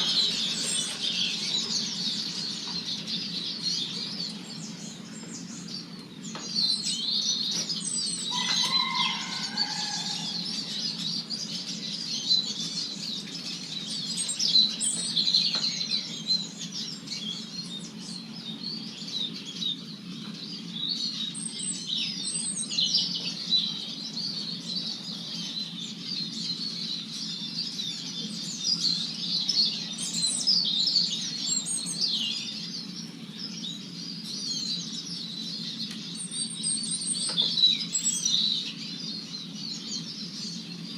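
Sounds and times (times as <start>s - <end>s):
small birds twittering: 0.0s - 40.9s.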